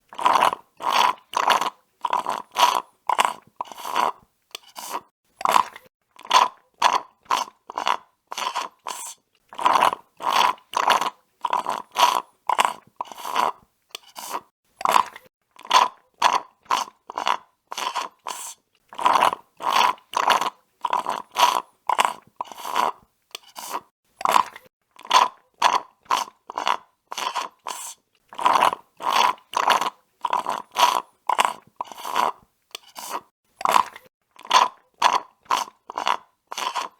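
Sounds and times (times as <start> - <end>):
slurping through a straw: 0.0 - 36.9.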